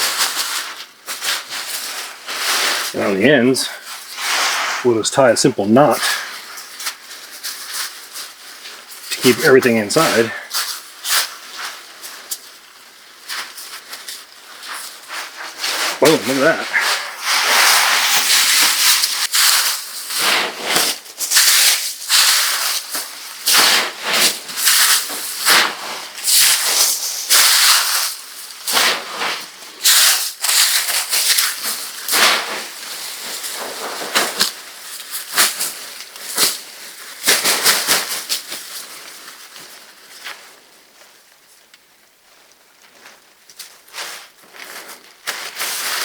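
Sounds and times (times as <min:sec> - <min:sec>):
dry material rustling and crackling: 0:05.8 - 0:46.0.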